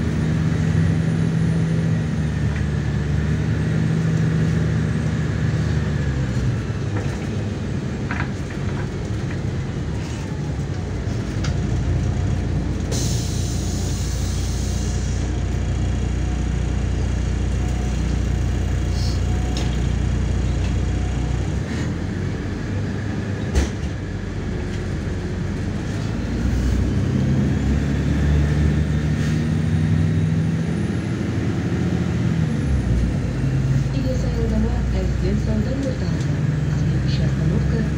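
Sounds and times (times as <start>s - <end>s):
bus engine drone: 0.0s - 37.9s
road rumble: 0.0s - 37.9s.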